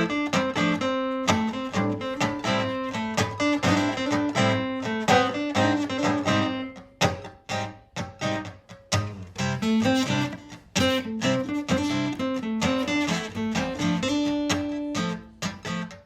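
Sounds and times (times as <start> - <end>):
acoustic guitar strumming and picking: 0.0 - 16.0.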